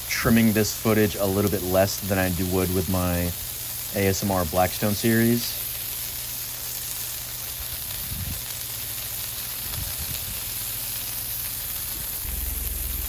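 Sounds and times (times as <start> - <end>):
beef patties sizzling on griddle: 0.0 - 13.0.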